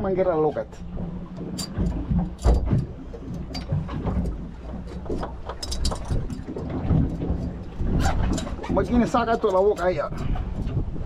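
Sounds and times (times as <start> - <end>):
fish shifting on deck: 0.0 - 11.0
low rumble of wind: 0.0 - 11.0.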